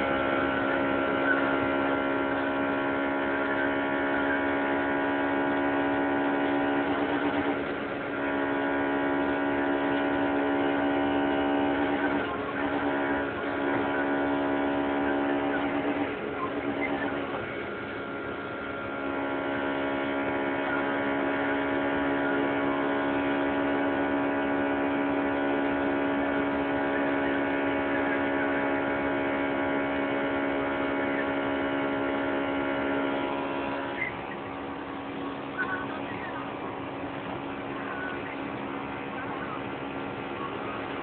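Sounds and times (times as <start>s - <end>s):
car engine at high revs: 0.0s - 41.0s.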